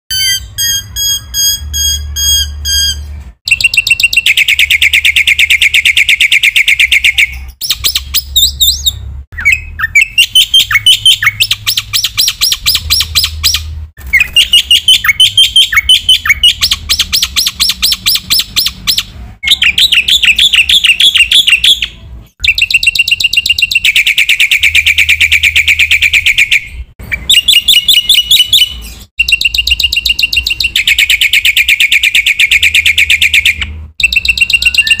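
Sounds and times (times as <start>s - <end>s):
bird chattering and trilling: 0.1s - 35.0s.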